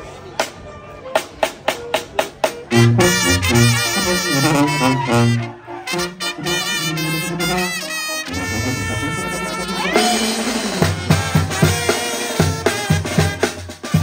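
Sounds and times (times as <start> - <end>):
brass band playing: 0.8 - 14.0.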